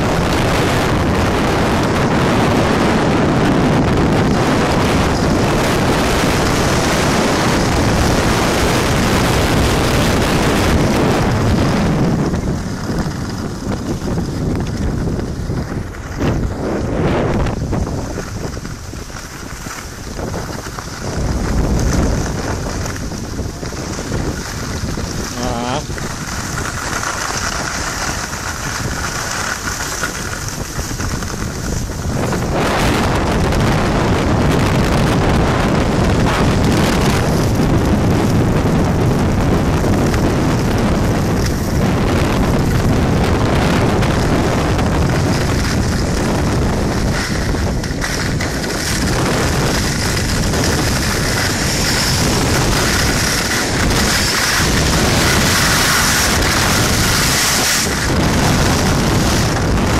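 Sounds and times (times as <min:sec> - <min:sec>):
skis scraping on packed snow: 0:00.0 - 0:59.9
wind rushing over microphone: 0:00.0 - 0:59.9.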